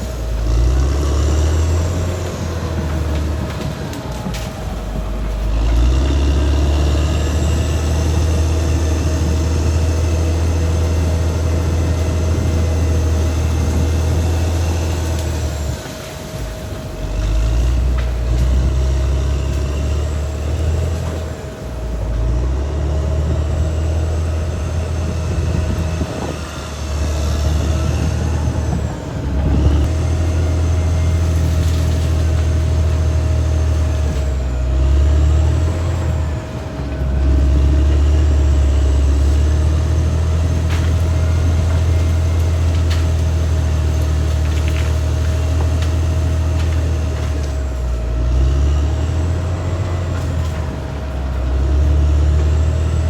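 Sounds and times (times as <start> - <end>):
bulldozer diesel engine: 0.0 - 53.0.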